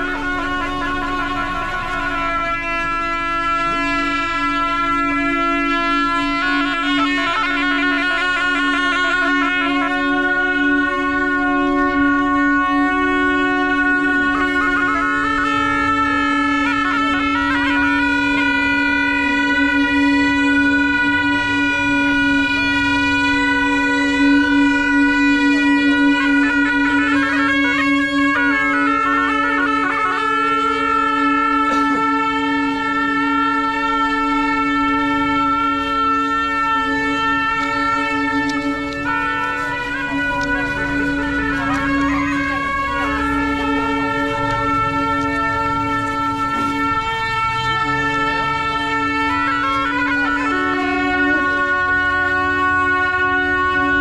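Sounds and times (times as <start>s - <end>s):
double-reed horns playing: 0.0s - 54.0s.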